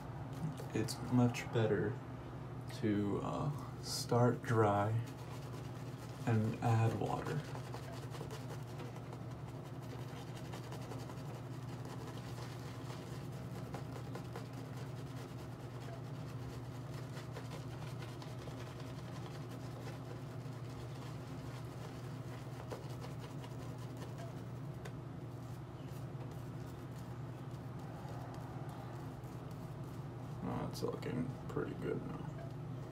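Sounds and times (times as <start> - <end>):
shaving brush swishing lather: 4.5 - 31.0.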